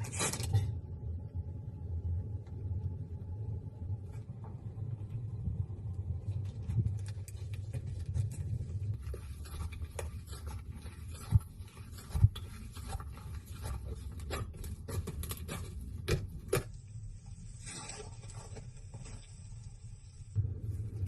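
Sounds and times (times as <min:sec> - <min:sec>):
low rumble: 0:00.6 - 0:21.0.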